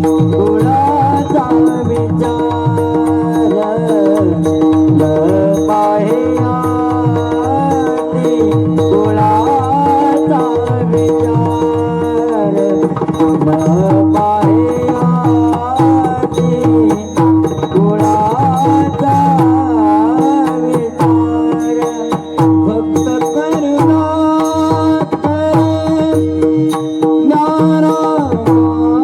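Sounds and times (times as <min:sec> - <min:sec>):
tabla strokes: 0:00.0 - 0:29.0.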